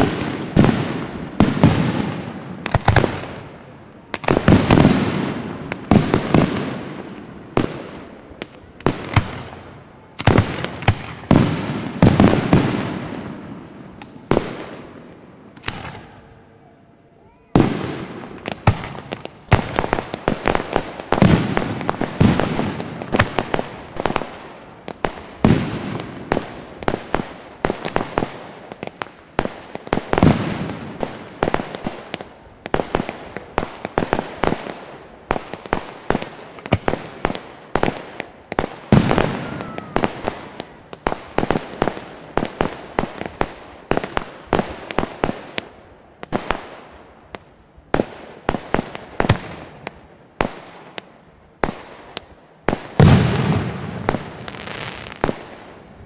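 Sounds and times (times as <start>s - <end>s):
deep firework booms: 0.0s - 16.4s, 17.5s - 45.6s, 52.7s - 56.0s
fireworks cracking and banging: 0.0s - 56.0s.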